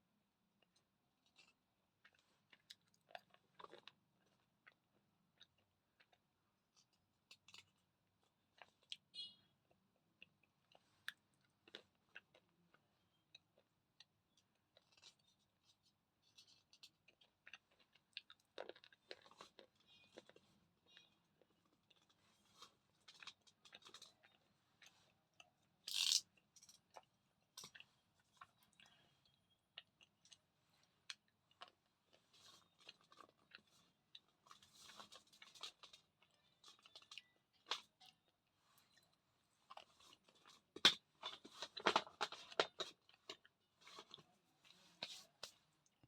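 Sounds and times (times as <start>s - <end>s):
crunching and chewing slate pencil: 0.6s - 9.1s, 9.7s - 46.0s.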